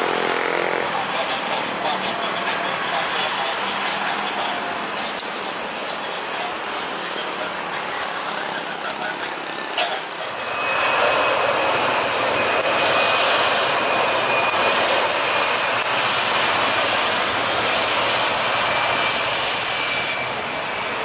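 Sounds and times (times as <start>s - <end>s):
jet engines roaring with whine: 0.0s - 21.0s.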